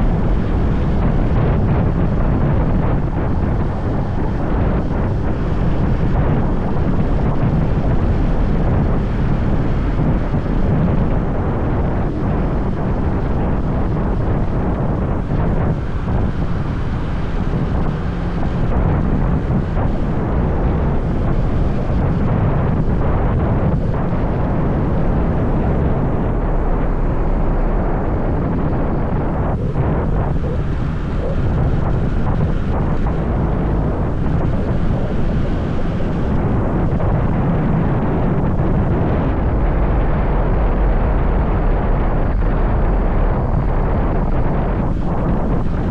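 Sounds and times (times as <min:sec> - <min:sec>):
road noise: 0:00.0 - 0:45.9
wind buffeting microphone: 0:00.0 - 0:45.9.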